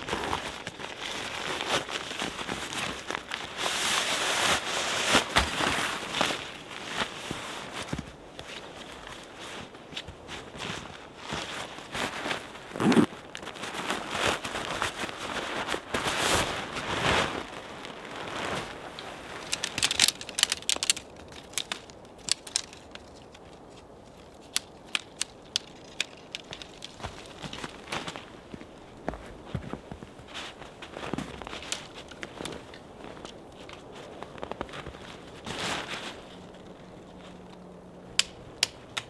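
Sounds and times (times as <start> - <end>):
tent fabric rustling: 0.0 - 37.9
tent poles clicking: 0.0 - 39.0.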